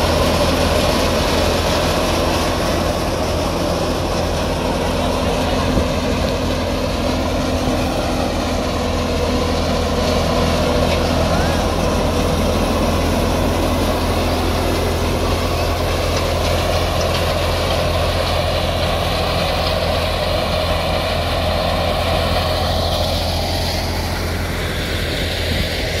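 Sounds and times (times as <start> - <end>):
diesel tractor engine droning: 0.0 - 26.0
wheat thresher running: 0.0 - 26.0.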